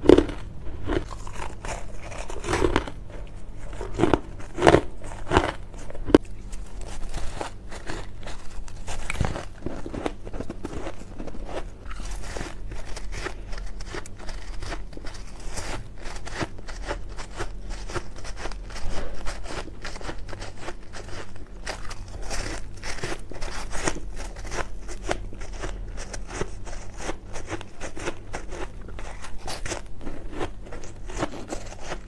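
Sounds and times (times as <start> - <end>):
ice crunching between teeth: 0.0 - 3.0, 3.6 - 32.0.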